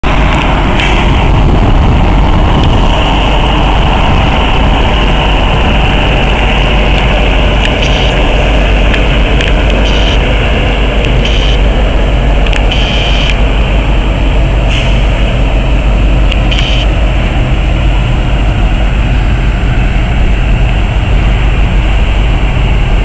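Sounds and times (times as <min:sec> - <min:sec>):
diesel locomotive engine rumble: 0:00.0 - 0:23.0.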